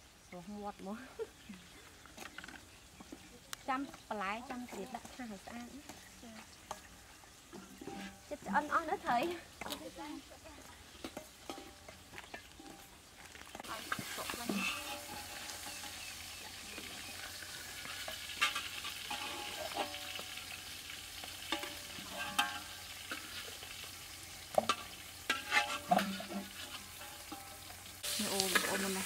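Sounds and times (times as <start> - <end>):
fish sizzling in oil: 0.0 - 29.0
metal spatula scraping wok: 2.2 - 12.9, 13.5 - 29.0.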